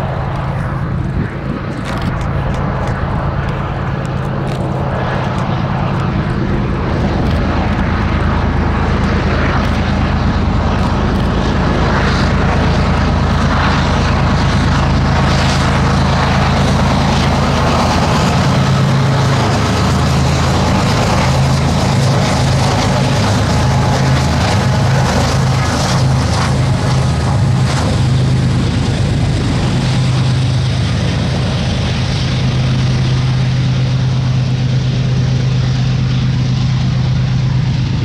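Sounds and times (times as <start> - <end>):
diesel locomotive engines droning: 0.0 - 38.0
hopper cars rumbling on rails: 0.0 - 38.0.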